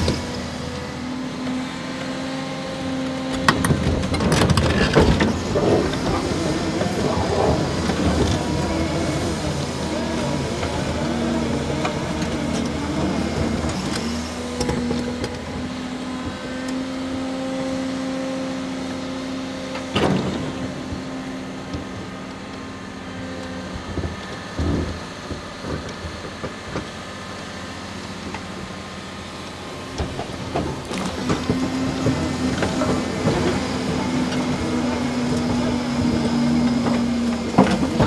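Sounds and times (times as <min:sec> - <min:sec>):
excavator engine droning: 0:00.0 - 0:38.0.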